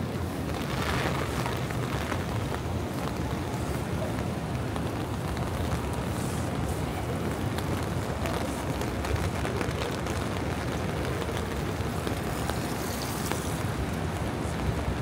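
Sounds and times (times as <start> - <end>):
wet street traffic rush: 0.0 - 15.0.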